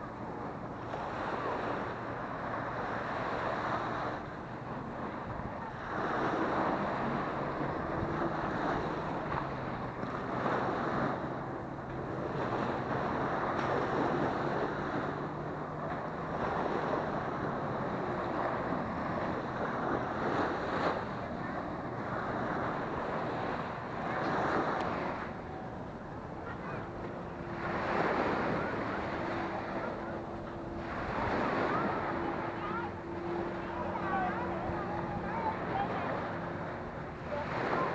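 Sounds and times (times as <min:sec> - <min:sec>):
low engine hum: 0:00.0 - 0:37.9
waves washing up beach: 0:00.0 - 0:37.9.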